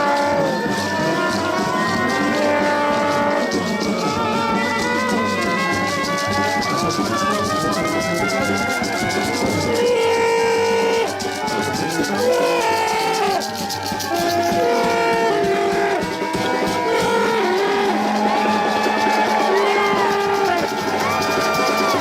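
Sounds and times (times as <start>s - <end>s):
brass band playing: 0.0s - 22.0s
fast percussion beat: 0.0s - 22.0s.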